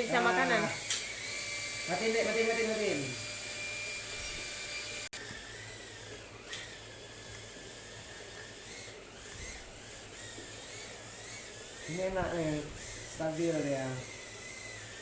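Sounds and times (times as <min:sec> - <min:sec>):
toy drone motors whining: 0:00.0 - 0:15.0.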